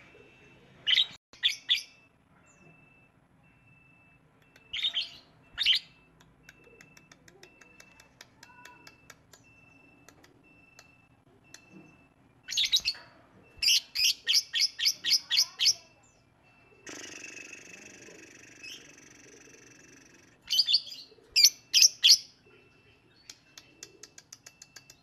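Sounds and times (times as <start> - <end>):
lovebird chirping: 0.3 - 25.0.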